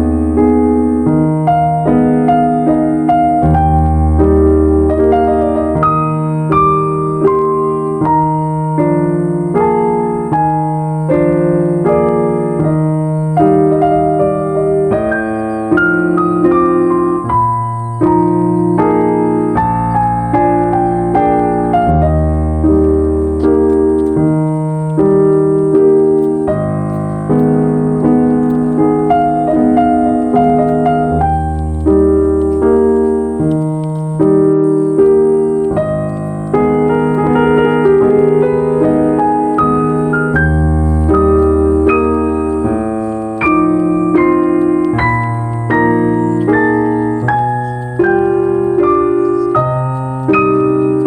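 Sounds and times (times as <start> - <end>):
gentle piano music: 0.0 - 51.0.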